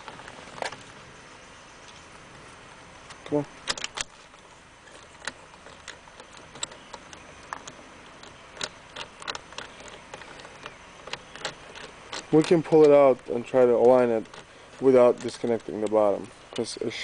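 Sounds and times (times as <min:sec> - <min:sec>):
light clicks and taps of tools: 0:03.0 - 0:17.0.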